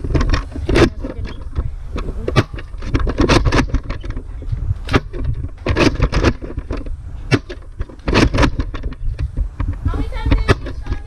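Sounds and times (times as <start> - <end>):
camera handling knocks and rustles: 0.0 - 11.0
low wind rumble: 0.0 - 11.0.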